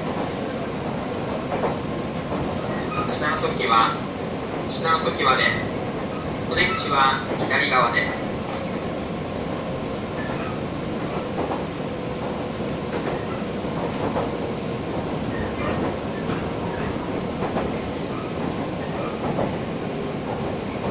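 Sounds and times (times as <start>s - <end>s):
train rumble: 0.0s - 20.9s.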